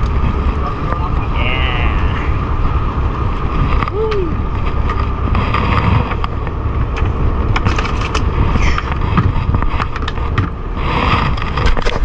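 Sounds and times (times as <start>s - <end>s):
boat engine running: 0.0s - 12.0s
wind noise on microphone: 0.0s - 12.0s.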